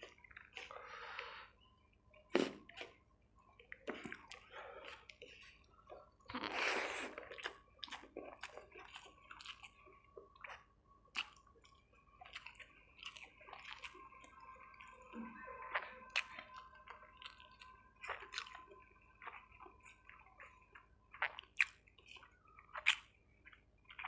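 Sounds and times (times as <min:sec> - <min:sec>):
chewing mouth sounds: 0:03.6 - 0:15.0, 0:15.7 - 0:24.0.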